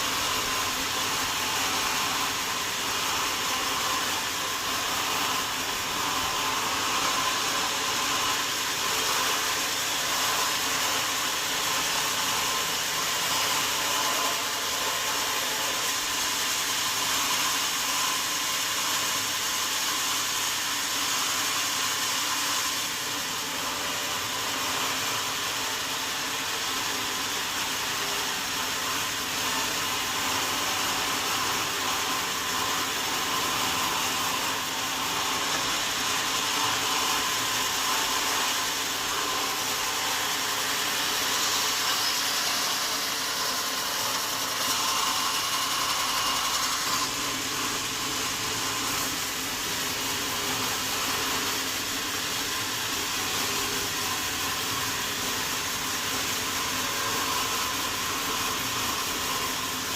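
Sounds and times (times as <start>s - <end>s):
saw cutting through log: 0.0s - 59.9s.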